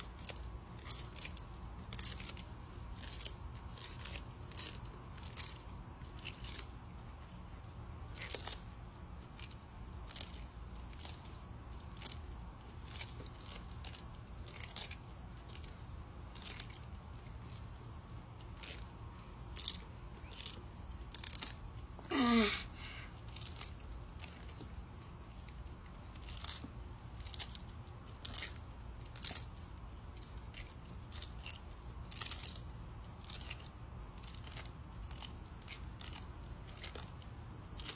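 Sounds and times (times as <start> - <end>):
tortoises crunching cactus: 0.0 - 37.9.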